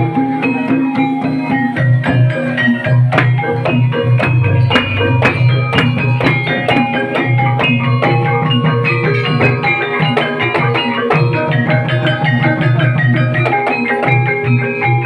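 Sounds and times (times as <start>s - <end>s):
drum strokes: 0.0s - 15.0s
struck tuned bars melody: 0.0s - 15.0s.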